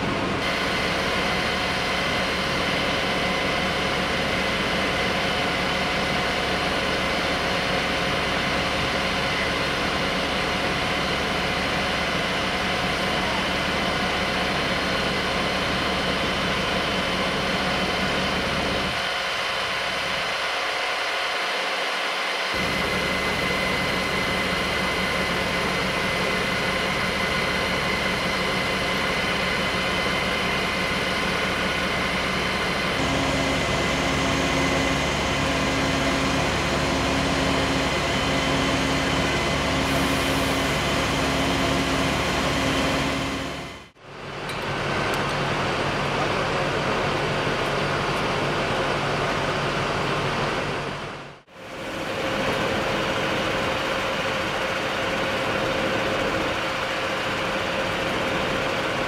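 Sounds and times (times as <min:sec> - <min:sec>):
diesel engine and pump running: 0:00.0 - 0:59.0.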